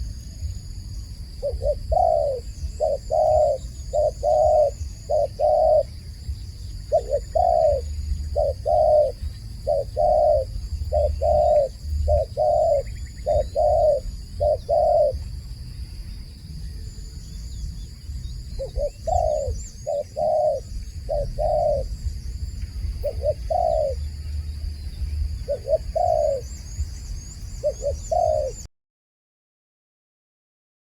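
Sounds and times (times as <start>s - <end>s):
small birds chirping: 0.0s - 28.7s
dove cooing: 1.3s - 15.6s, 17.1s - 28.7s.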